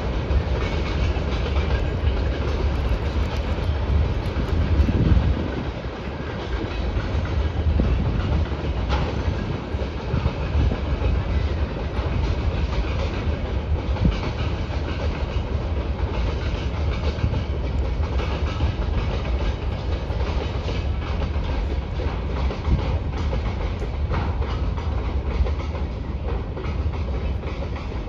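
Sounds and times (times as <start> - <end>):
train rumbling over bridge: 0.0 - 28.0
wheels clacking over rail joints: 0.0 - 28.0.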